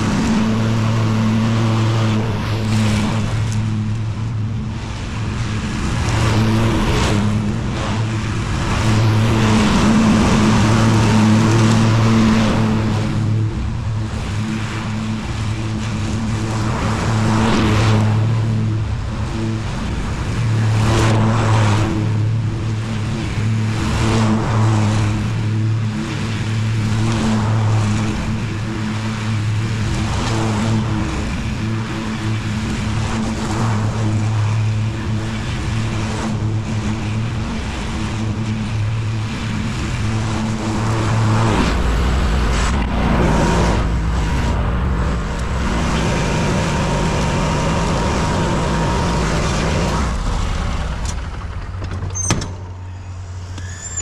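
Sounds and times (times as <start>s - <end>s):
lawn mower engine running: 0.0s - 21.0s, 27.8s - 54.0s.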